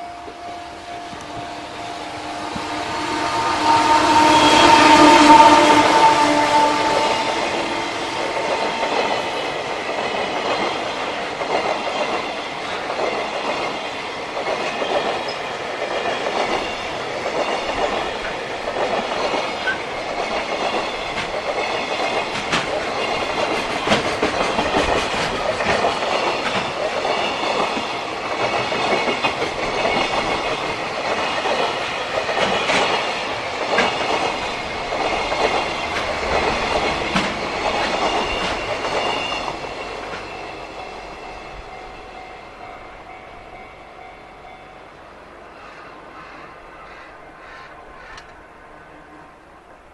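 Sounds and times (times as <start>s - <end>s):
train wheels clattering on rails: 0.0s - 44.6s.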